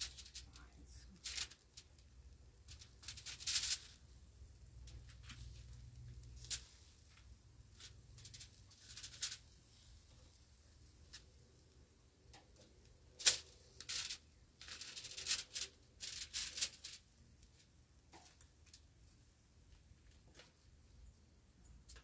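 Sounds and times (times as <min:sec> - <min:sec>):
aluminium foil crinkling: 0:00.0 - 0:18.9.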